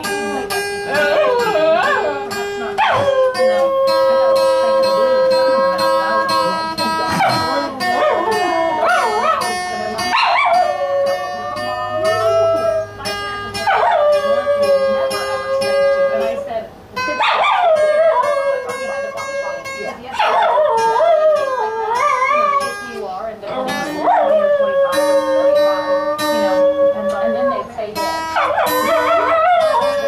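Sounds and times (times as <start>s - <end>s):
strummed acoustic guitar: 0.0s - 30.0s
small dog howling: 0.9s - 12.9s, 13.6s - 16.4s, 17.2s - 19.2s, 20.2s - 22.8s, 23.8s - 27.7s, 28.3s - 30.0s.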